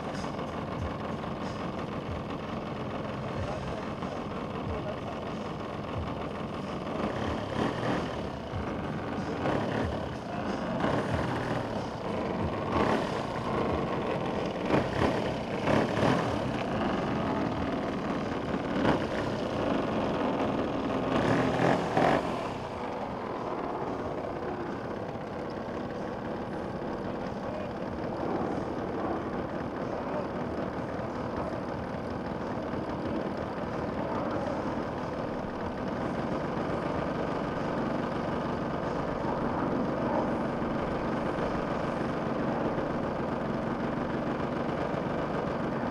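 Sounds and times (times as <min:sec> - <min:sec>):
model airplane engine droning: 0:00.0 - 0:45.9.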